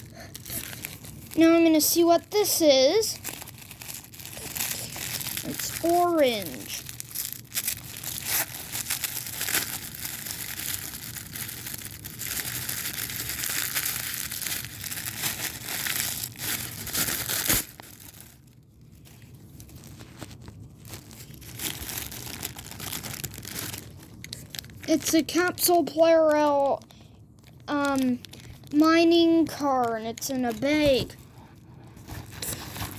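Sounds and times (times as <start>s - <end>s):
plastic packaging crinkling: 0.0s - 32.9s.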